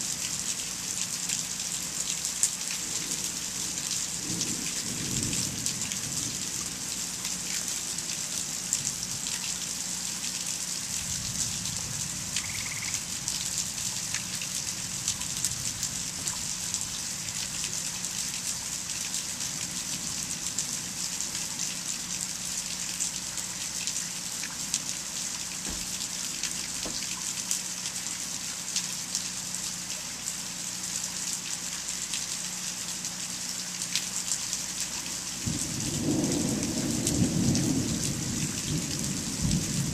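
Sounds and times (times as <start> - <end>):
heavy rain hiss: 0.0 - 39.9
raindrops ticking on surfaces: 0.0 - 39.9.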